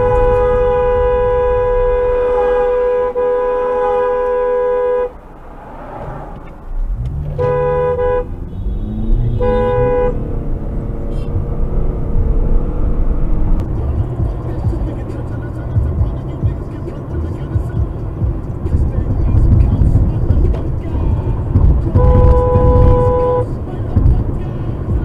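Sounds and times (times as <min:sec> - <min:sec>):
car horn honking: 0:00.0 - 0:05.3, 0:07.0 - 0:11.4, 0:13.8 - 0:25.0
traffic noise: 0:00.0 - 0:25.0.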